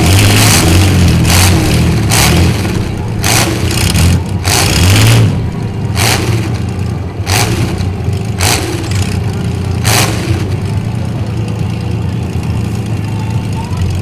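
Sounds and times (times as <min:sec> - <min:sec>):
truck engines rumbling: 0:00.0 - 0:14.0.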